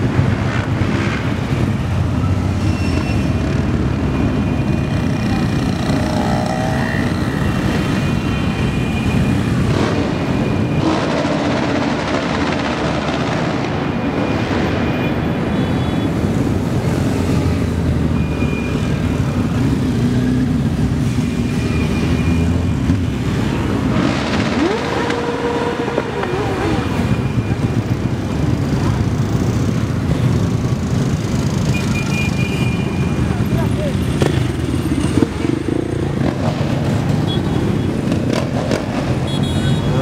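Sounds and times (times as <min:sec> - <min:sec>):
motorcycles riding past: 0:00.1 - 0:13.9, 0:16.4 - 0:32.0, 0:33.0 - 0:40.0.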